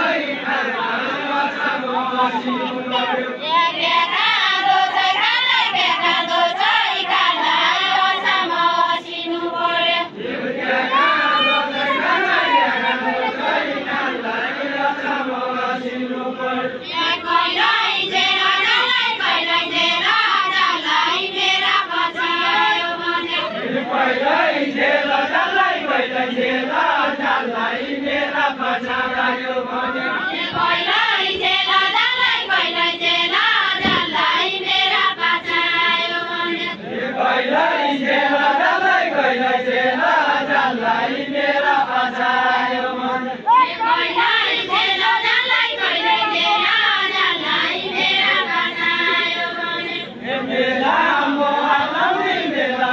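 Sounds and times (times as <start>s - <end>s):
group singing unaccompanied: 0.0s - 52.9s.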